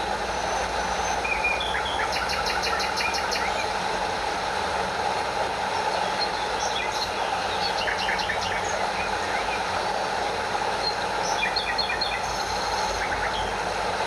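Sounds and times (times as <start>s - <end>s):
stream water over small waterfall: 0.0s - 14.0s.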